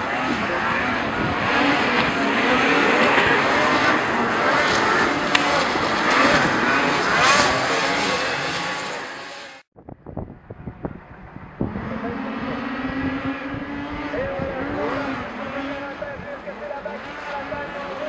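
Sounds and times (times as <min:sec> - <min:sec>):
snowmobile engines revving: 0:00.0 - 0:09.7, 0:10.5 - 0:18.0.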